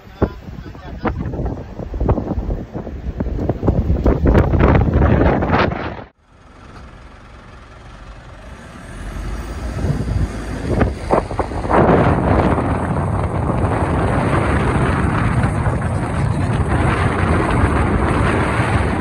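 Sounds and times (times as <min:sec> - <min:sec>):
wind rushing over microphone: 0:00.0 - 0:06.2, 0:08.3 - 0:19.0
vehicle engine and road rumble: 0:00.0 - 0:19.0.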